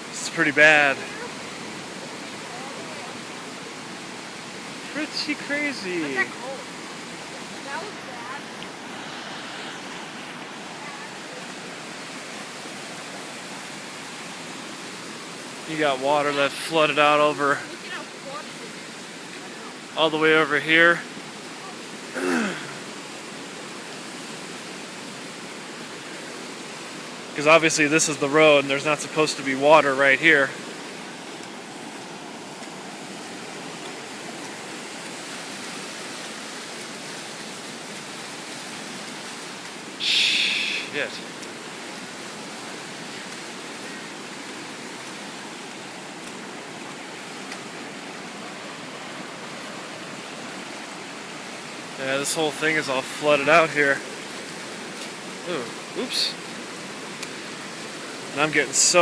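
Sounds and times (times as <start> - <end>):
rushing floodwater: 0.0 - 59.0.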